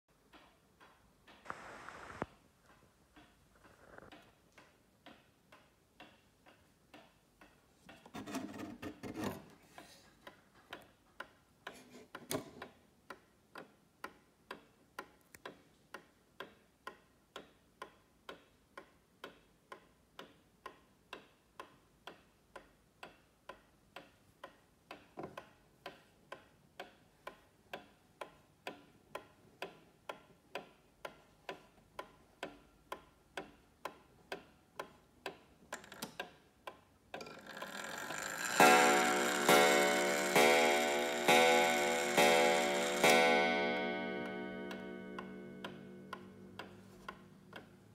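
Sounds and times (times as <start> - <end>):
pendulum clock ticking: 0.1 - 1.4, 2.7 - 8.1, 9.8 - 47.9.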